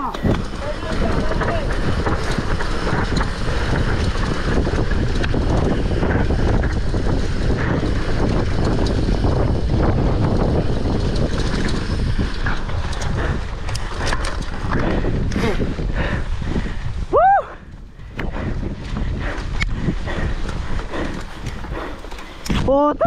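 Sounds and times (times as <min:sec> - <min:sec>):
continuous rumble of ride: 0:00.0 - 0:23.0
wind buffeting microphone: 0:00.0 - 0:23.0.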